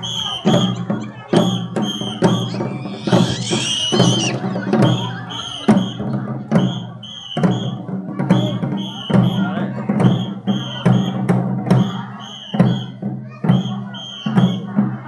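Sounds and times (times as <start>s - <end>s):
marching drums: 0.0s - 15.0s.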